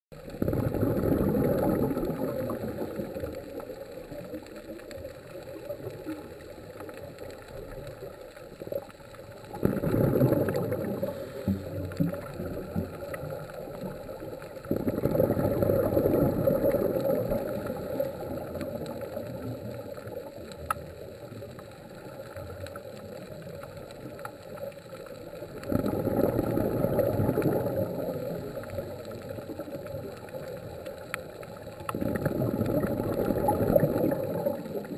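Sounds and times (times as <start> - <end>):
exhaled bubbles rushing: 0.2 - 34.9
faint clicks: 0.2 - 34.9
steady underwater hiss: 0.2 - 34.9.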